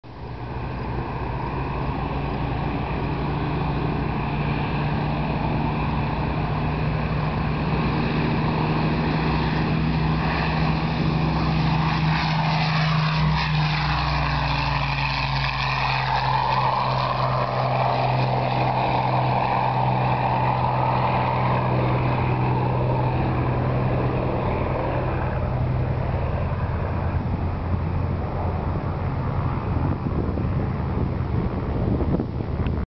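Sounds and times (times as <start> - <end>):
propeller plane engine at full power: 0.0 - 32.8.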